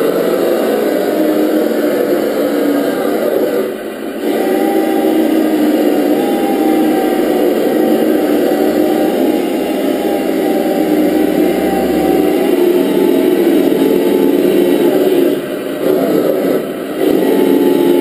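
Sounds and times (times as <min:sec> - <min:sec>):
toy trucks driving on tiles: 0:00.0 - 0:18.0.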